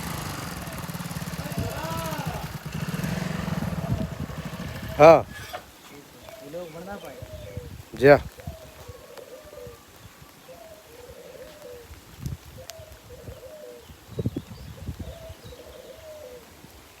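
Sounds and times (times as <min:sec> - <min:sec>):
dove cooing: 0:00.0 - 0:16.8.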